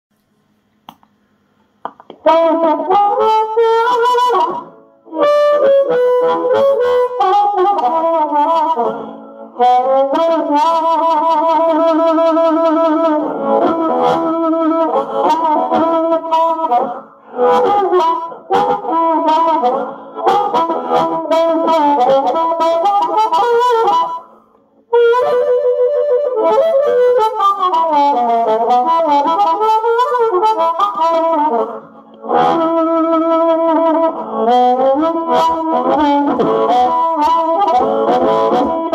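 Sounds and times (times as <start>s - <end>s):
amplified blues harmonica with echo: 1.9s - 38.9s.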